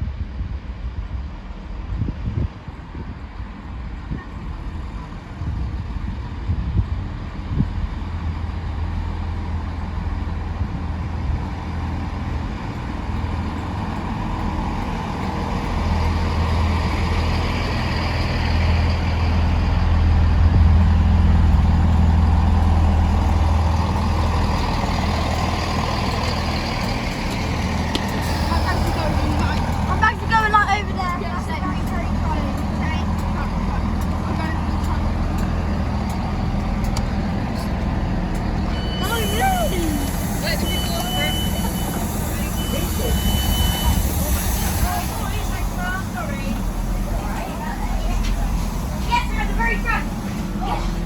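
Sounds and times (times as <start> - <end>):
train diesel engine droning: 0.0 - 51.0.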